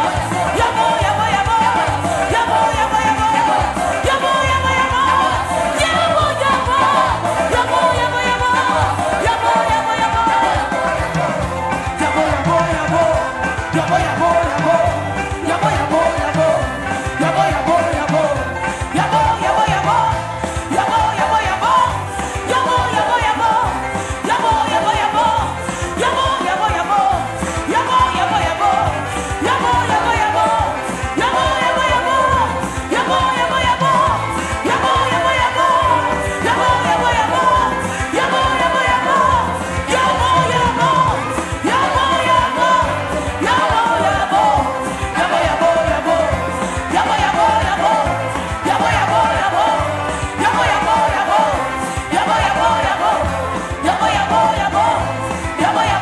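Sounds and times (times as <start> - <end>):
band with steady beat: 0.0 - 56.0
person singing: 0.0 - 56.0.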